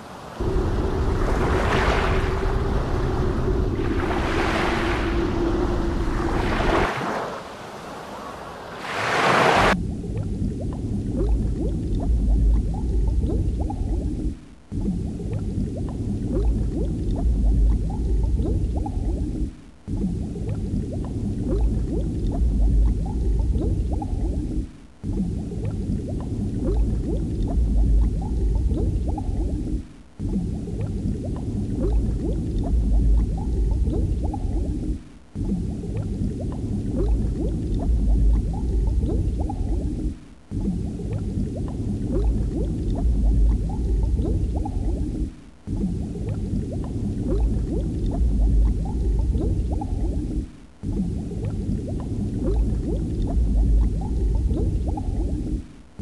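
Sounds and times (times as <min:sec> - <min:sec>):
underwater bubbling and gurgling: 0:00.0 - 0:07.6, 0:08.8 - 0:56.0.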